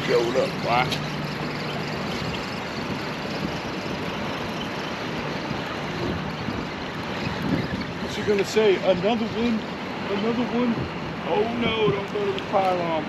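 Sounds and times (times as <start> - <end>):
wind on microphone: 0.0 - 12.4.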